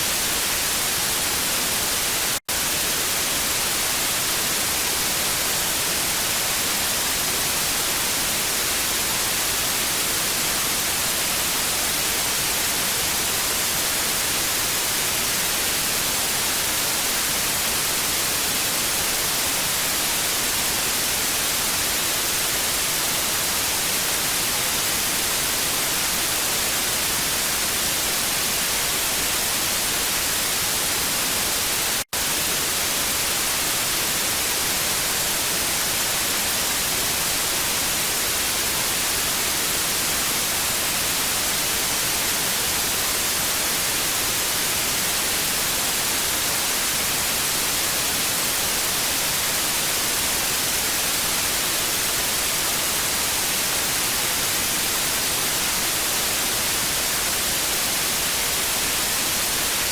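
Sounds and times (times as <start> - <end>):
tv static hiss: 0.0 - 59.9.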